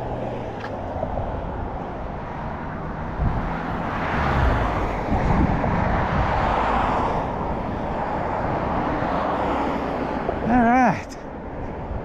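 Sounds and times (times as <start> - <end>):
car passing: 0.0 - 12.0
road traffic: 0.0 - 12.0.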